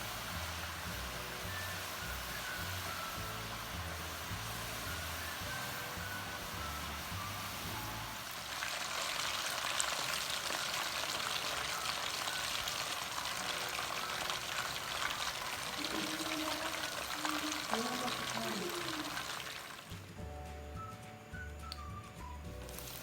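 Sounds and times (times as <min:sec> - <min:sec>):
food frying in hot oil: 0:00.0 - 0:20.0, 0:22.7 - 0:23.0
faint background music: 0:00.0 - 0:23.0.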